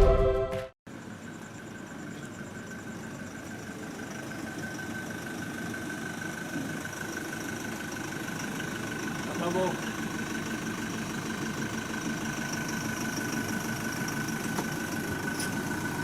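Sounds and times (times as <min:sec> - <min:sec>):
engine idling: 0:00.9 - 0:16.0.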